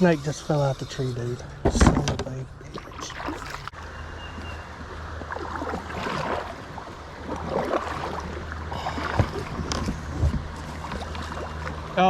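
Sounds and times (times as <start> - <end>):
water splashing around a kayak: 1.6 - 12.0.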